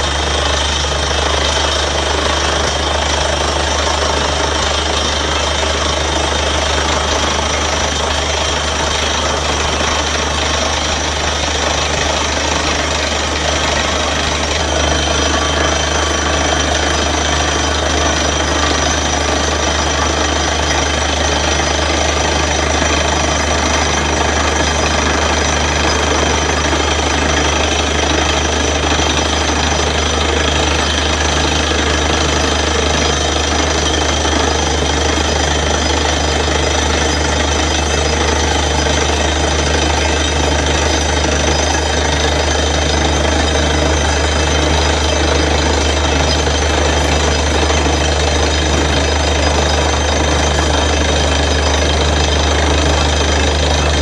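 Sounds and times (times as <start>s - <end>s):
compressor and engine running: 0.0s - 54.0s
drill hammer pounding rock: 0.0s - 54.0s.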